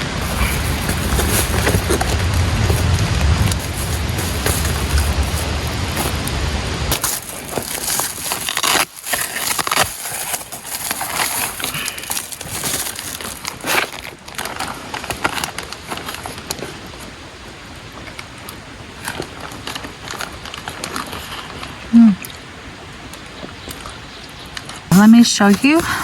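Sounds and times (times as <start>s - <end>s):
rustling and crinkling: 0.0s - 22.4s, 23.1s - 26.0s.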